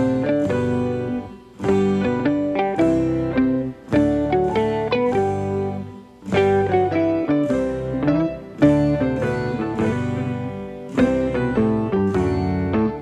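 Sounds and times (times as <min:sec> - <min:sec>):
plucked guitar music with bass: 0:00.0 - 0:13.0.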